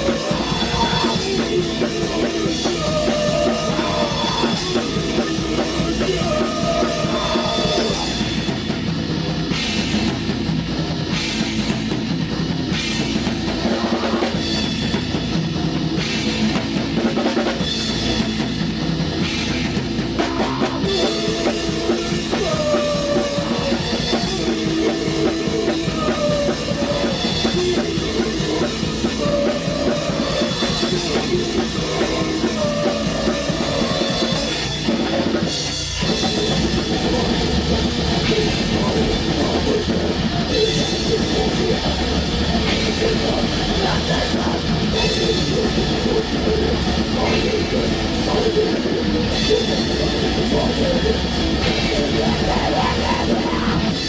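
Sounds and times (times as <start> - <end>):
distorted guitars: 0.0 - 54.0
fast drum kit: 0.0 - 54.0.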